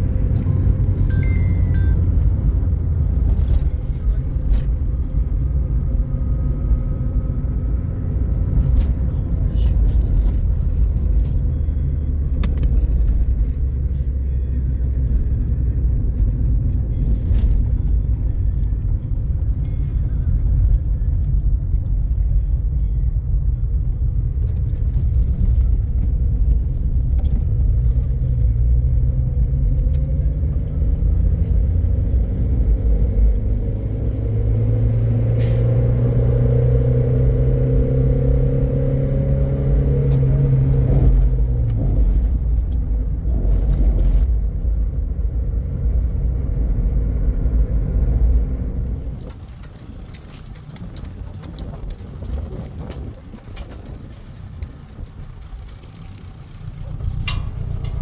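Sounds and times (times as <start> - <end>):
motor vehicle rumbling: 0.0 - 58.0.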